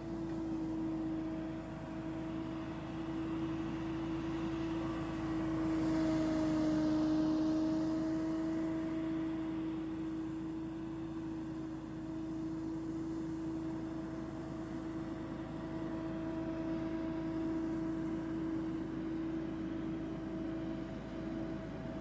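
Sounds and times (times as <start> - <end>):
leaf blower running: 0.0 - 22.0.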